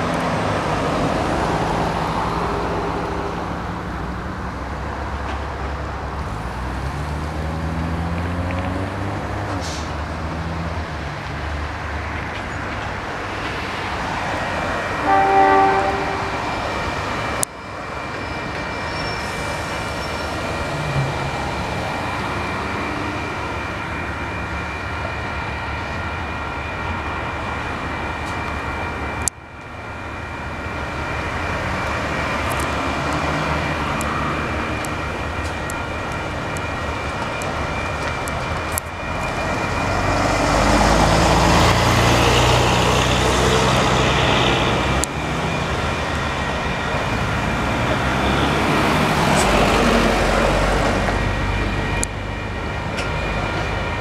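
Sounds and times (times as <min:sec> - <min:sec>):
crossing warning bells ringing: 0:00.0 - 0:54.0
diesel locomotive engine: 0:00.0 - 0:54.0
train wheels rumbling on rails: 0:00.0 - 0:54.0.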